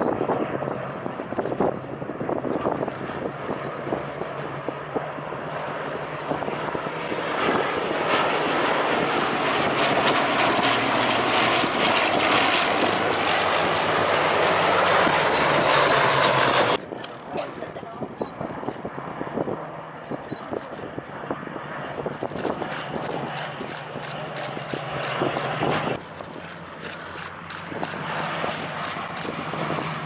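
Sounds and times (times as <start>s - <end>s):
propeller aircraft flying over: 0.0s - 30.0s.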